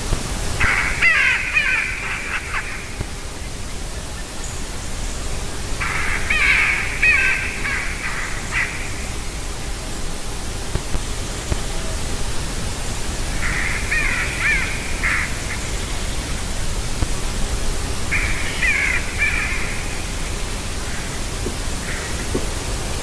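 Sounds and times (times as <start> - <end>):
steady hiss: 0.0 - 23.0
distant chattering bird calls: 0.6 - 23.0.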